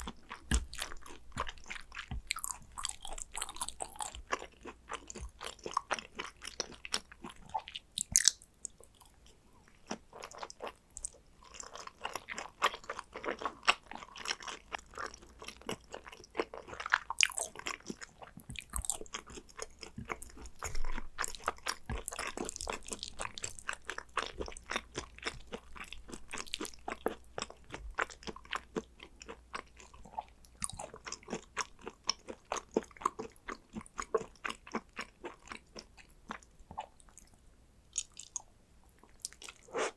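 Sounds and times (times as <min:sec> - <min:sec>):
close-miked chewing: 0:00.0 - 0:39.9.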